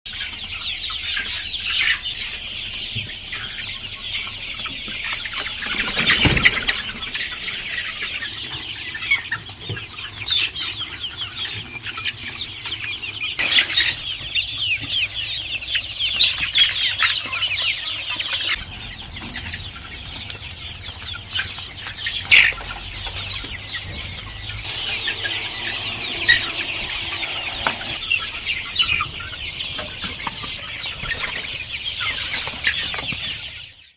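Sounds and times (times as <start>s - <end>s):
chickens peeping and clucking: 0.1s - 33.9s.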